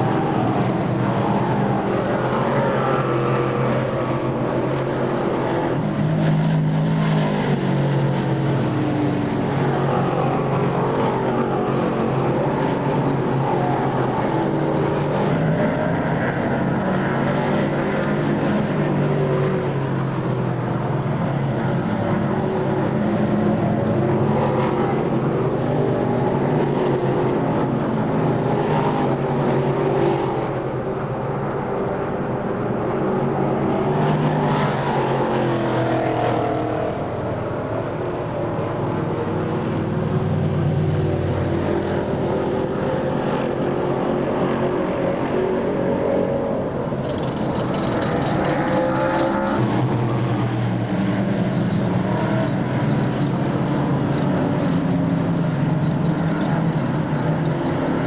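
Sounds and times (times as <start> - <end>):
race car engines passing: 0.0 - 58.0.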